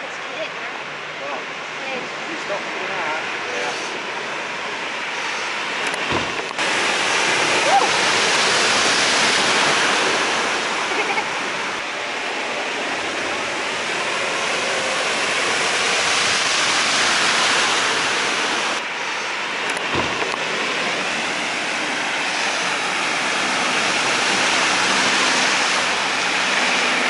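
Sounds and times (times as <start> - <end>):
floodwater rushing: 0.0 - 27.0
cars splashing through water: 0.2 - 27.0.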